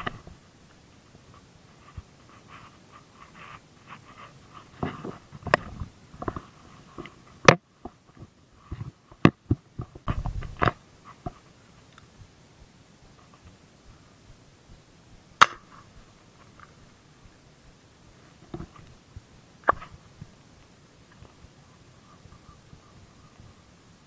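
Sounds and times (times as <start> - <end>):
leaves and branches rustling: 0.0 - 24.0.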